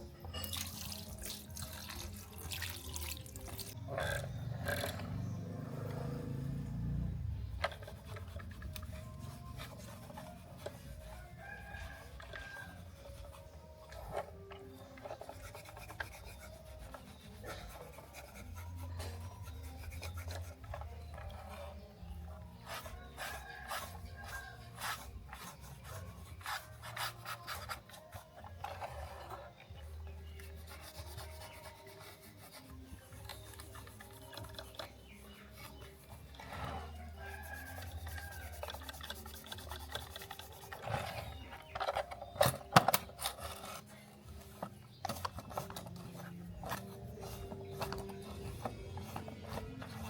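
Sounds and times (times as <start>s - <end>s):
rubbing and scraping on toy car: 3.6s - 50.0s.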